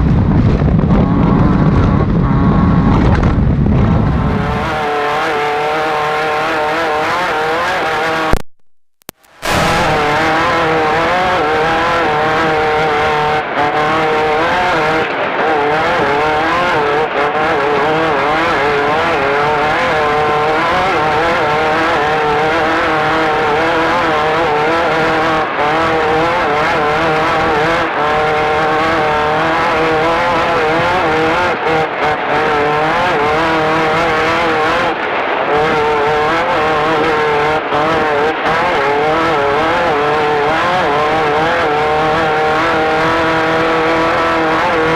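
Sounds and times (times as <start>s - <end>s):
race car engine running hard: 0.0s - 8.4s, 9.4s - 44.9s.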